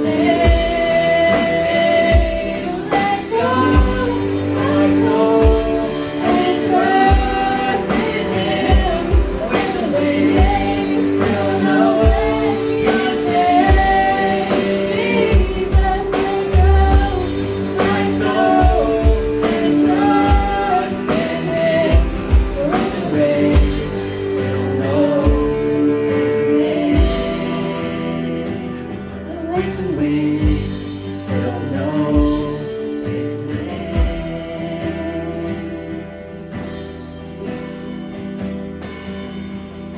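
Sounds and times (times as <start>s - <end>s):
person singing worship song: 0.0s - 37.1s
band playing: 0.0s - 39.9s
guitar: 0.0s - 39.9s.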